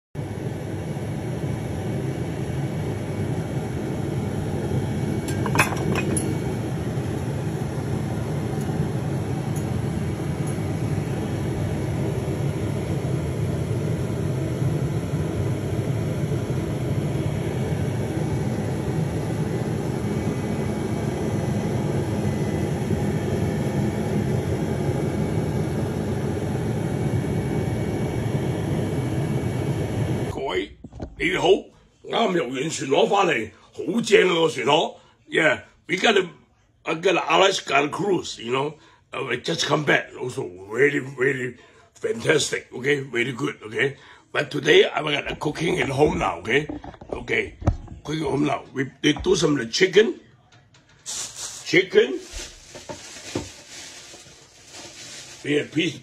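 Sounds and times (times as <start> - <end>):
mechanical hum: 0.2 - 56.0.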